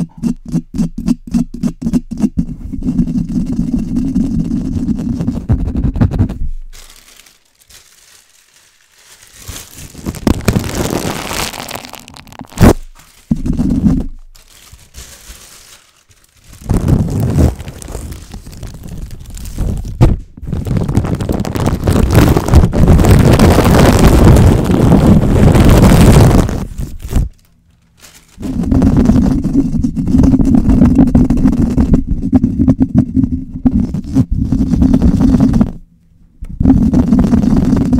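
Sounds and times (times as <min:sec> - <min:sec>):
scratching on a microphone: 0:00.0 - 0:37.9.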